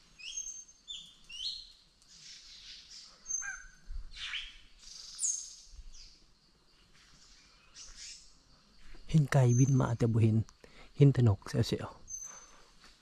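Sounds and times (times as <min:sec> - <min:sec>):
forest birds calling: 0:00.0 - 0:13.0.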